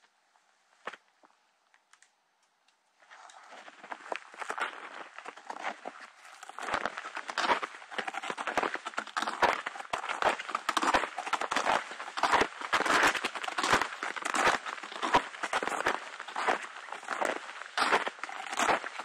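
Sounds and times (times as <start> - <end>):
footsteps crunching through snow: 3.0 - 19.0.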